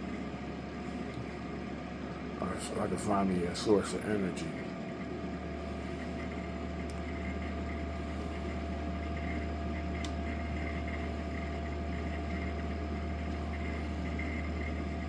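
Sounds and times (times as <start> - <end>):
air conditioner humming: 0.0 - 15.0
fan rushing: 0.0 - 15.0.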